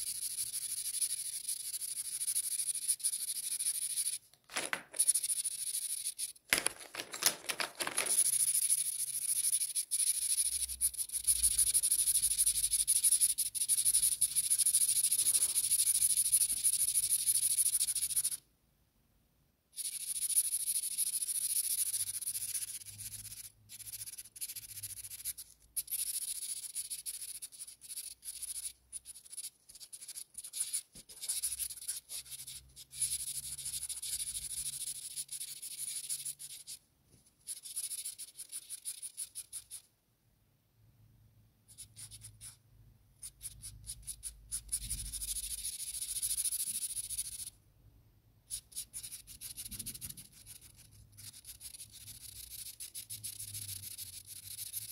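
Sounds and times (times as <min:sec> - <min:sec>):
marker scribbling on paper: 0:00.0 - 0:06.4, 0:07.8 - 0:18.4, 0:19.8 - 0:36.8, 0:37.4 - 0:39.8, 0:41.7 - 0:42.6, 0:43.2 - 0:47.5, 0:48.5 - 0:54.9.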